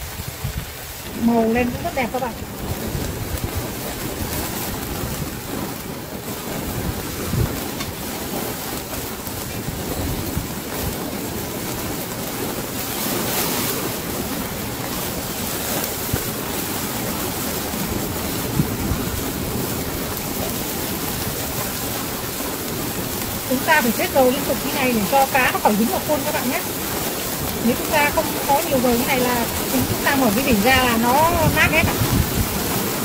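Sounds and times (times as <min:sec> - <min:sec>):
fish sizzling on a grill: 0:00.0 - 0:33.0
sharp fire crackles: 0:00.0 - 0:33.0
juices hissing on coals: 0:00.7 - 0:33.0.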